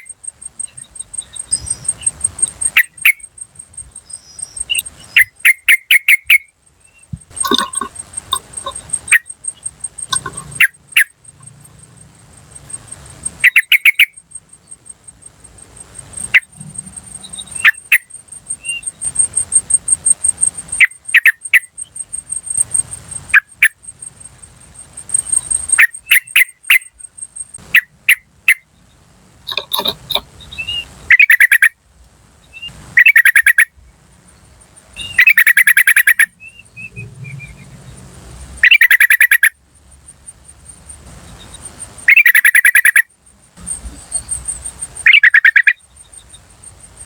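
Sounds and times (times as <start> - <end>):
bird calling sharp notes: 0.0 - 14.3, 15.2 - 23.8, 25.1 - 28.7, 29.5 - 31.8, 32.6 - 33.7, 35.0 - 37.6, 38.6 - 39.6, 41.2 - 46.4
high pulsing insect trill: 0.0 - 47.0.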